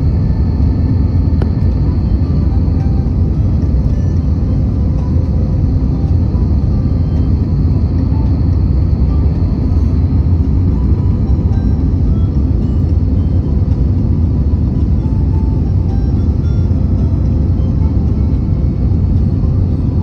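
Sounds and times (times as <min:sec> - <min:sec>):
airplane low rumble: 0:00.0 - 0:20.0
faint high whine: 0:00.0 - 0:20.0.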